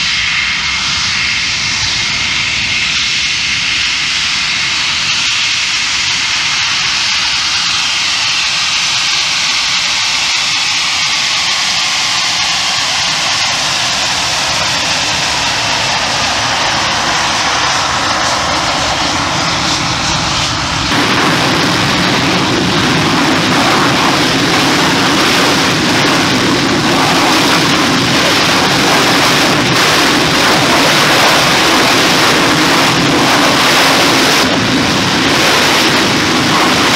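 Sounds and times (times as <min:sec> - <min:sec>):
jet engine whine: 0:00.0 - 0:36.9.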